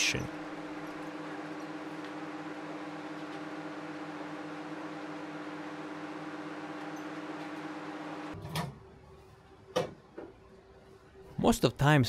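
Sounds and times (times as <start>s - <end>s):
microwave oven humming: 0.0s - 11.3s.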